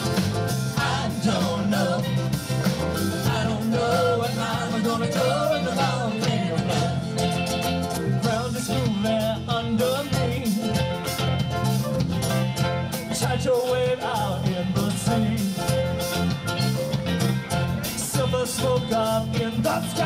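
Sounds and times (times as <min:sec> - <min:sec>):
live band playing rock song: 0:00.0 - 0:20.0.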